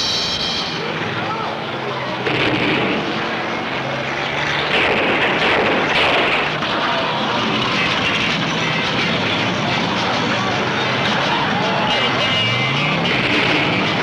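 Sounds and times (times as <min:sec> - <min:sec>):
car engines running together: 0:00.0 - 0:14.0.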